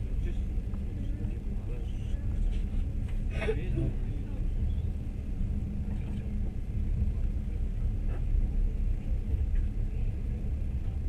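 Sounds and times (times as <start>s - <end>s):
faint steady hum: 0.0s - 11.0s
train rumbling: 0.0s - 11.0s.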